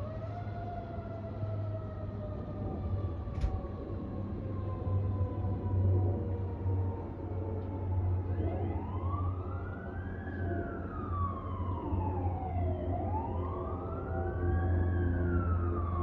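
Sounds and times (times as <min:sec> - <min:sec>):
emergency vehicle siren wailing: 0:00.0 - 0:16.0.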